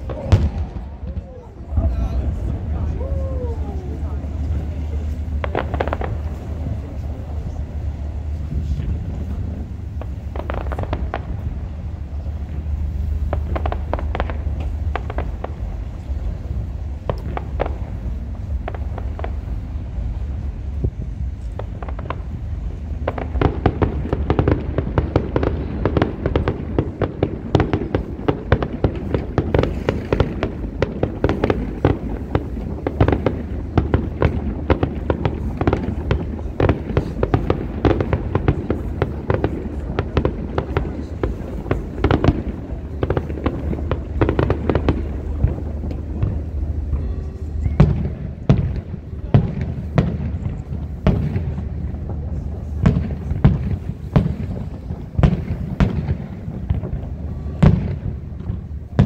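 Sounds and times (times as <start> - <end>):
fireworks bangs and crackles: 0.0 - 59.0
steady low rumble: 0.0 - 59.0.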